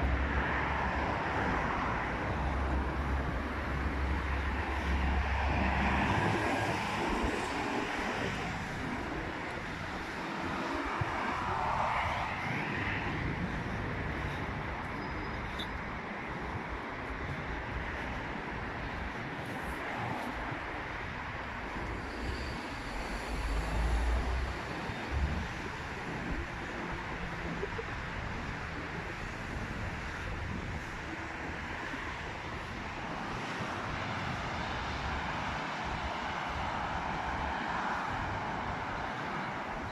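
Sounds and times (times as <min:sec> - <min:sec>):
city traffic rumble: 0:00.0 - 0:39.9
wind buffeting microphone: 0:00.0 - 0:39.9.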